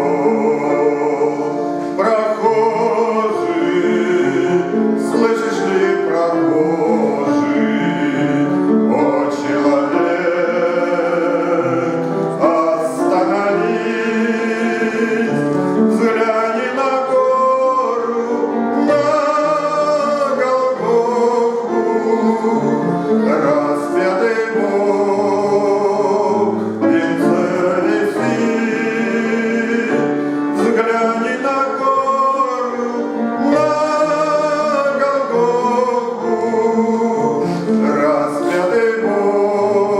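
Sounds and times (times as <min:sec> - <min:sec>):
instrumental accompaniment: 0:00.0 - 0:39.9
man singing a hymn: 0:00.0 - 0:39.9.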